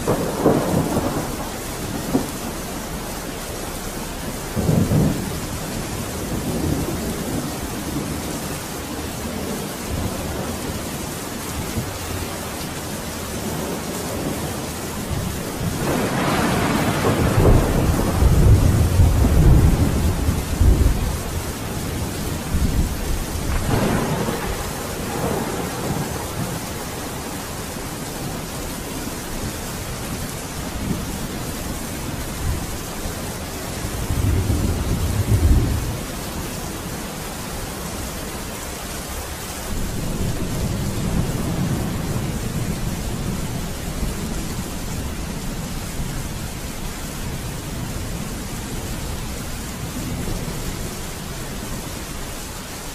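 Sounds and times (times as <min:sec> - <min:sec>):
rolling thunder: 0:00.0 - 0:37.2, 0:39.6 - 0:52.4
steady rain: 0:00.0 - 0:52.9.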